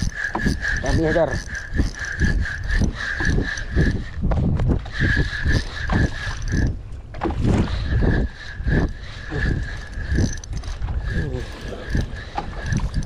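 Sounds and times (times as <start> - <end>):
water slapping against boat: 0.0 - 13.0
wind buffeting microphone: 0.0 - 13.0.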